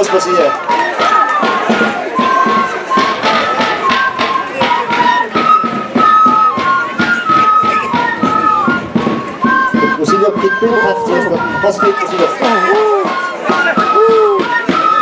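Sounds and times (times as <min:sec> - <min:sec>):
drum beat: 0:00.0 - 0:15.0
wind instrument melody: 0:00.0 - 0:15.0.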